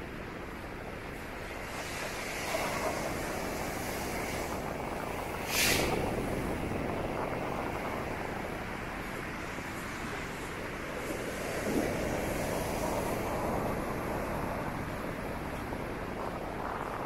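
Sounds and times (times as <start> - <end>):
strong wind: 0.0 - 17.0
heavy waves breaking: 0.1 - 17.0.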